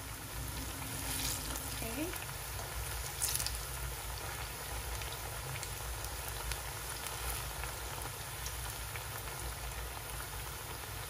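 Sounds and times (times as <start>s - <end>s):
plantain sizzling in oil: 0.0s - 11.0s.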